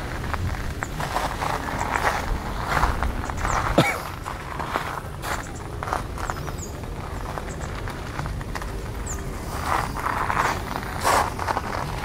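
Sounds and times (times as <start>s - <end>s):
footsteps crunching on gravel: 0.0s - 12.0s.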